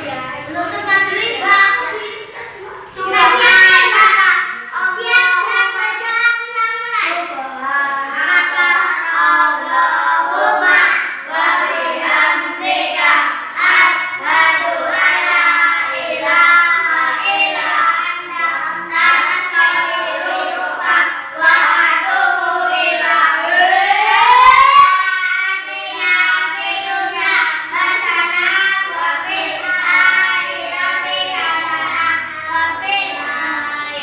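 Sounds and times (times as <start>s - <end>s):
children singing: 0.0s - 34.0s.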